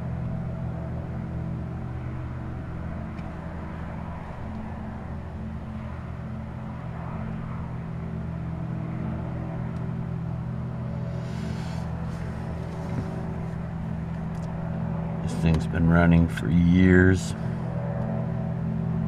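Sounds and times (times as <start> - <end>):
low industrial hum: 0.0 - 19.0.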